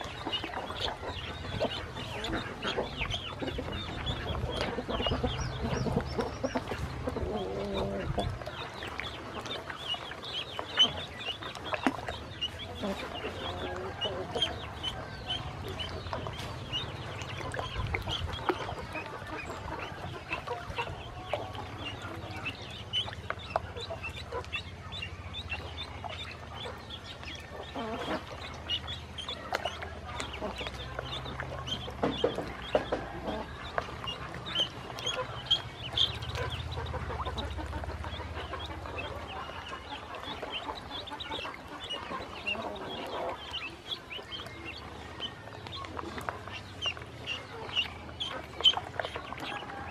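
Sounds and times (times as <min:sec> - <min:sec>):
ducklings peeping: 0:00.0 - 0:49.9
small water splashes: 0:00.0 - 0:49.9.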